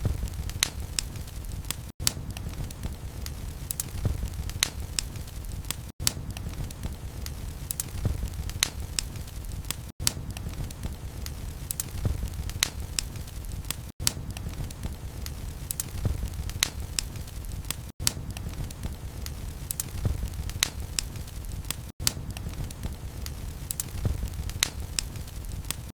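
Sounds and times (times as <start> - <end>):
wood fire crackling and popping: 0.0 - 25.9.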